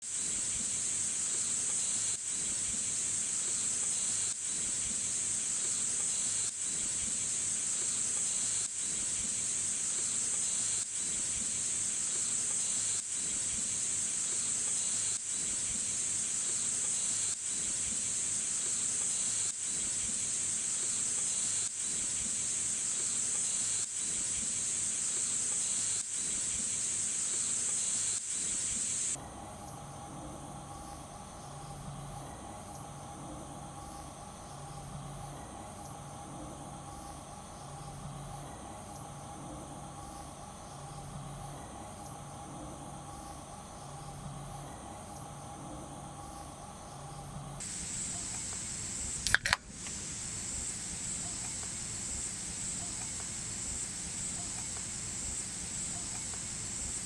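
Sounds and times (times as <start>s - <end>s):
high-pitched insect chorus: 0.1s - 57.0s.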